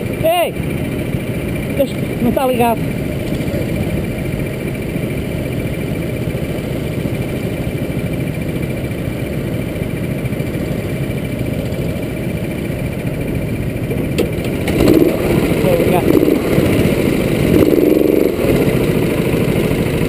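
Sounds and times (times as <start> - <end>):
go-kart engines idling: 0.0 - 20.0.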